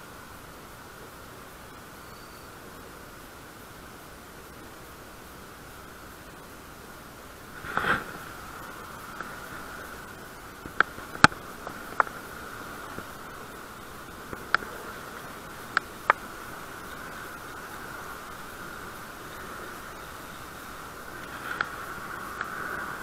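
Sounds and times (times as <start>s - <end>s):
soft rushing noise: 0.0s - 23.0s
steady hiss: 0.0s - 23.0s.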